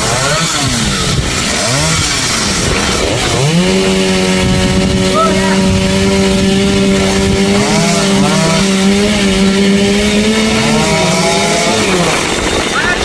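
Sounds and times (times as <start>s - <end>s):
chainsaw sawing a tree: 0.0s - 13.0s.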